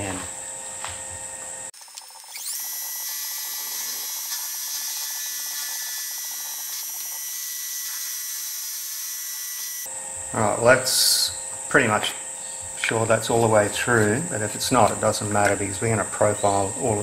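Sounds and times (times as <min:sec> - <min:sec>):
milling machine spindle whine: 0:00.0 - 0:17.0.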